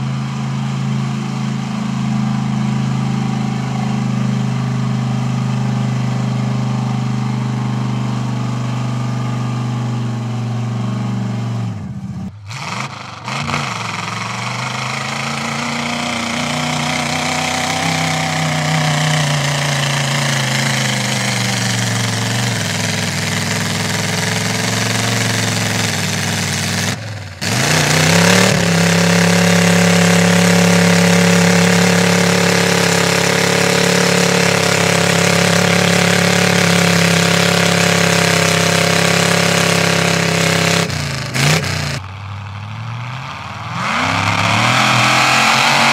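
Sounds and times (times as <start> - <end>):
pickup truck engines revving: 0.0 - 45.9.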